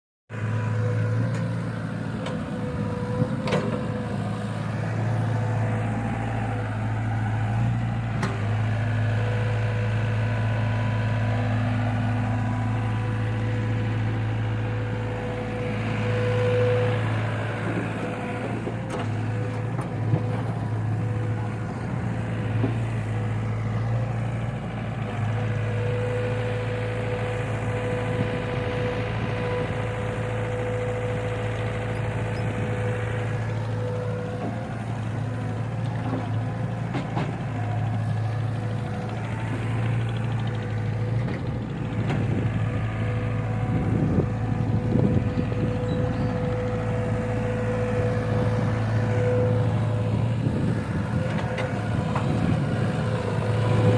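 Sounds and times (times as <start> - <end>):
diesel engine running: 0.3 - 53.9.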